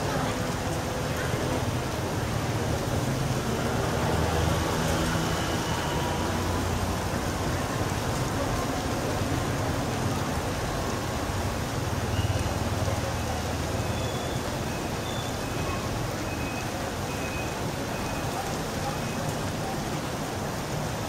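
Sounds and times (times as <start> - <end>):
rain on wet street: 0.0 - 21.0.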